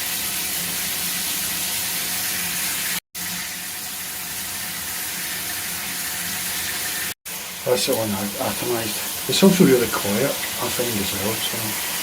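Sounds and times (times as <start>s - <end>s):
water spraying from shower head: 0.0s - 12.0s.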